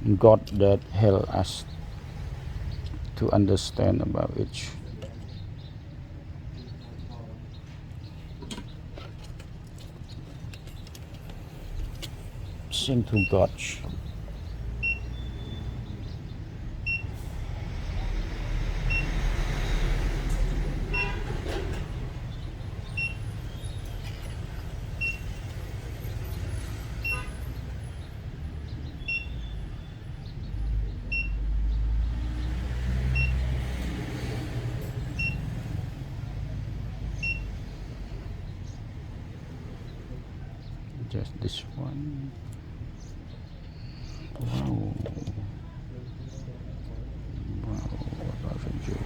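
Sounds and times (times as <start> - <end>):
low traffic rumble: 0.0 - 49.0.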